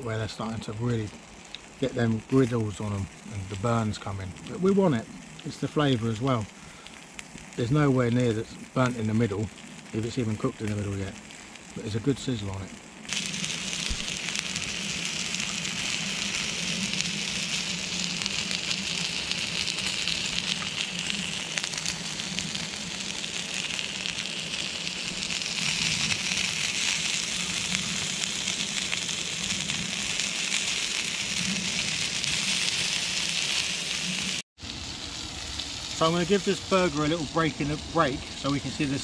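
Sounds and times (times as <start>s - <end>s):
burgers sizzling on a griddle: 0.0s - 39.0s.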